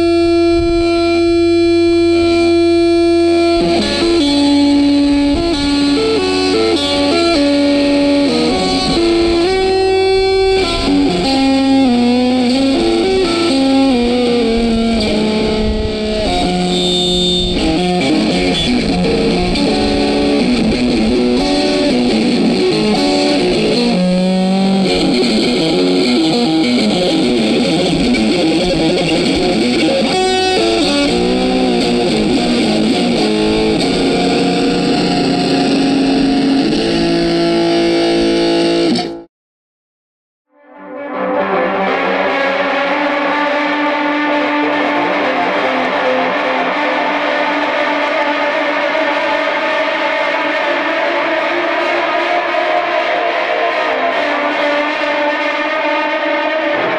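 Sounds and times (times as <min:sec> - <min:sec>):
steady music backing: 0:00.0 - 0:39.2, 0:41.1 - 0:56.9
distorted electric guitar melody: 0:00.0 - 0:39.3, 0:40.6 - 0:56.9.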